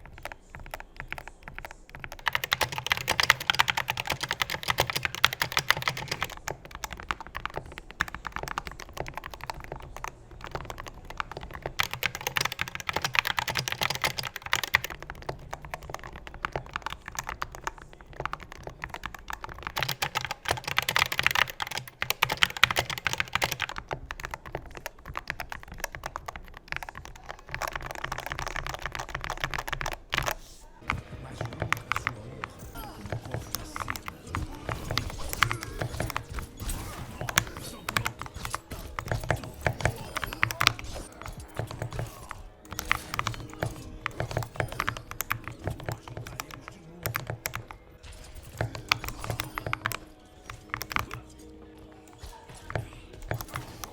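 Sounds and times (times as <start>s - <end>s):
mechanical keyboard typing: 0.0s - 53.9s.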